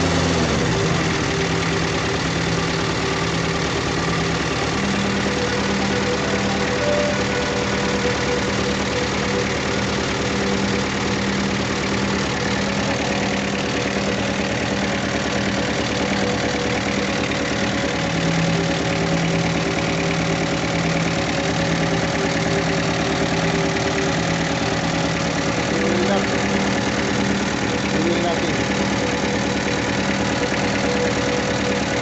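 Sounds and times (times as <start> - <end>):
engine idling and misfiring: 0.0 - 32.0.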